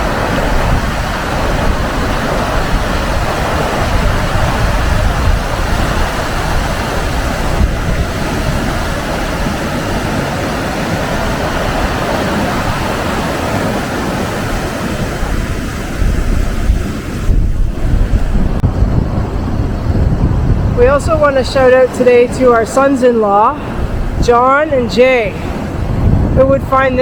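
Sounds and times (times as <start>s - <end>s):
waterfall rushing: 0.0s - 18.8s, 21.0s - 26.0s.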